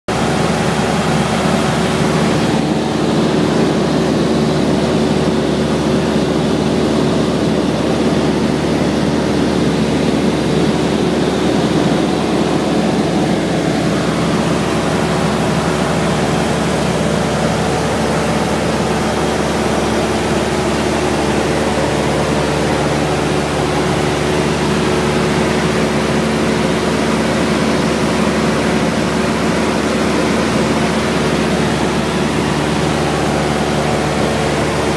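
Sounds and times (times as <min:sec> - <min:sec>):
airplane engine droning: 0:00.1 - 0:34.9.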